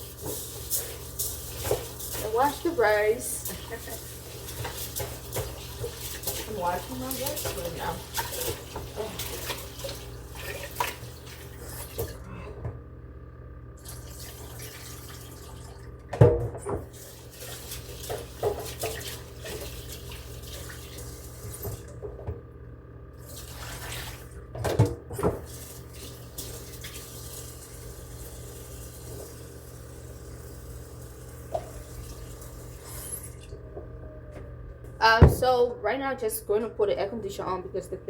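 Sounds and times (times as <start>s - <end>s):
steady low hum: 0.0s - 23.6s, 24.2s - 38.0s.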